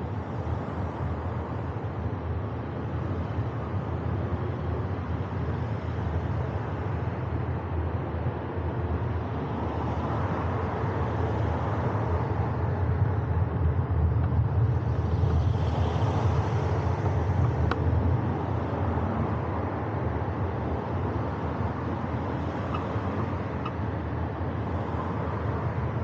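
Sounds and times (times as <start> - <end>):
road noise: 0.0 - 26.0
wind rumble on microphone: 3.0 - 26.0.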